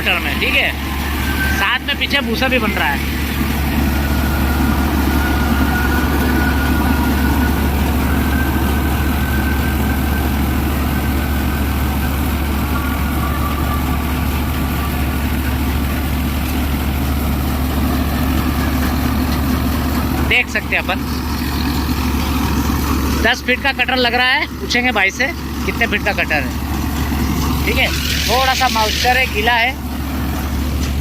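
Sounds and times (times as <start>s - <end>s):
combine harvester whine: 0.0s - 31.0s
tractor engine running under load: 0.0s - 31.0s.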